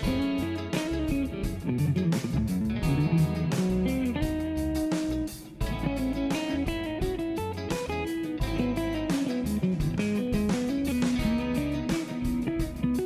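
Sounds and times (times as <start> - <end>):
bass guitar: 0.0 - 13.0
drums: 0.0 - 13.0
electric guitar lead line: 0.0 - 13.0.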